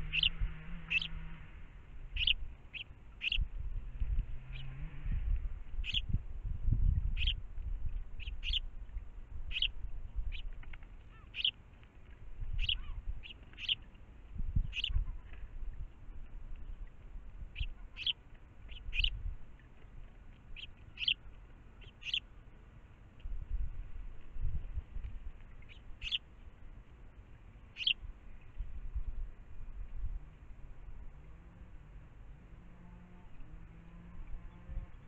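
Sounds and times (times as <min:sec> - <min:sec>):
small birds chirping: 0:00.0 - 0:01.3, 0:01.9 - 0:30.1.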